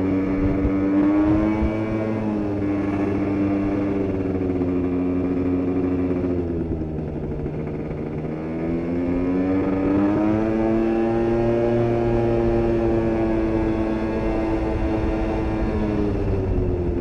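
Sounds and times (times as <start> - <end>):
scooter two-stroke engine revving: 0.0 - 17.0.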